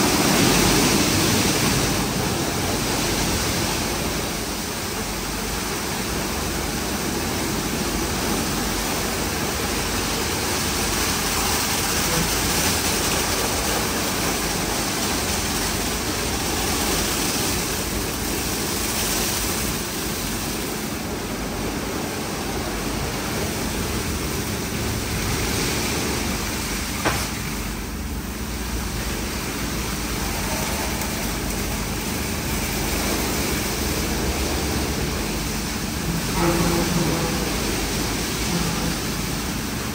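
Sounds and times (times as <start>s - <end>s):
car wash spraying water: 0.0s - 39.9s
washing machinery: 0.0s - 39.9s.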